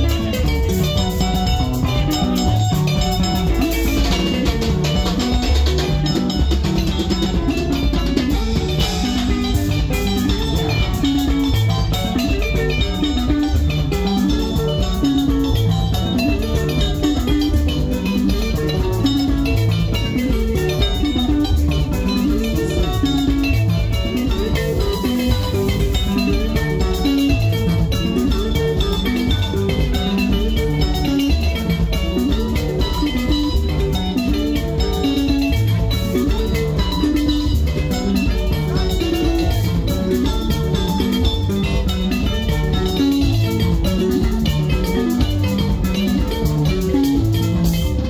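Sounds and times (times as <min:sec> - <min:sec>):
bass guitar: 0:00.0 - 0:48.0
drum kit: 0:00.0 - 0:48.0
plucked electric guitar lines: 0:00.0 - 0:48.0.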